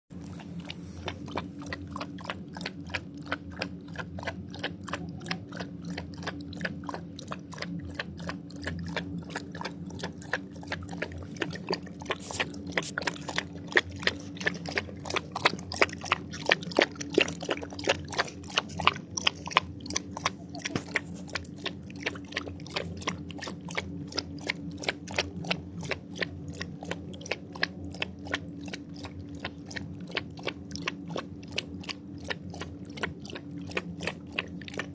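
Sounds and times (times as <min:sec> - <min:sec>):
low hum: 0:00.1 - 0:34.9
animal crunching food: 0:00.2 - 0:34.9.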